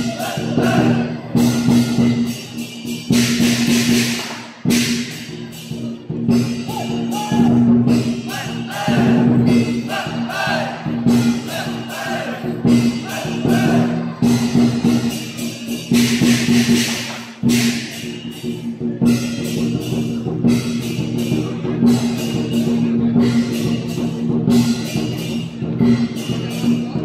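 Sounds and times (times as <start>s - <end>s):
percussion ensemble driving beat: 0.0s - 27.0s
ringing cymbal wash: 0.0s - 27.0s
sharp cymbal clashes: 0.0s - 27.0s.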